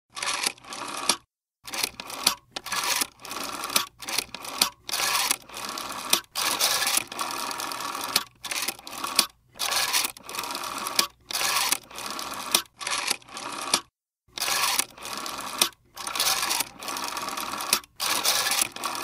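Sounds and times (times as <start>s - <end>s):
rotary telephone dial whirring: 0.1s - 19.0s.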